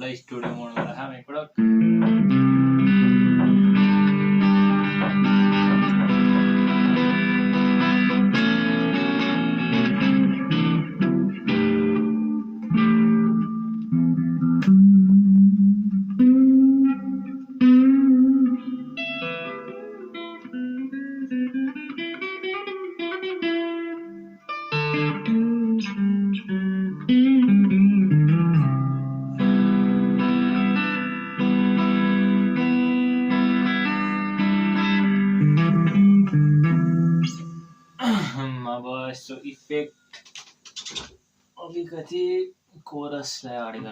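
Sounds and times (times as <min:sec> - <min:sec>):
electric guitar strummed chords: 0:01.6 - 0:37.9
electric guitar single notes: 0:01.6 - 0:38.0.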